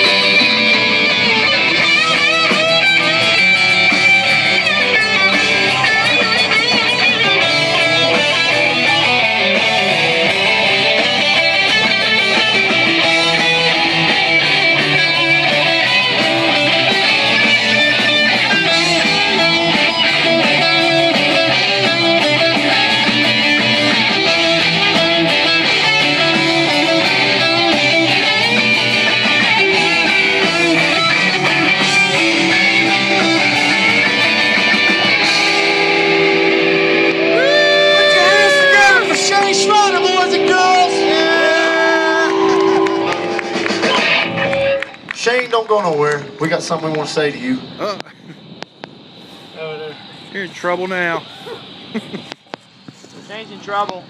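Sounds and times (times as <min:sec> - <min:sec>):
live rock band playing: 0:00.0 - 0:45.1
electric guitars: 0:00.0 - 0:50.4.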